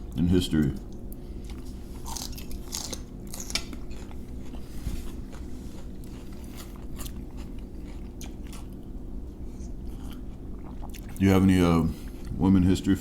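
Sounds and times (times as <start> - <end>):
steady low hum: 0.0 - 13.0
people chewing crunchy food: 0.6 - 11.2.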